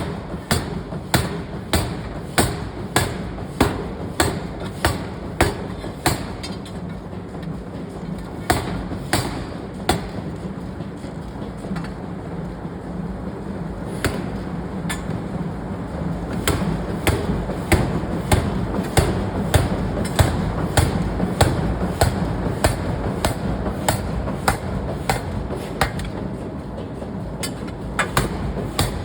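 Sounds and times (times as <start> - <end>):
forging machinery humming: 0.0 - 29.0.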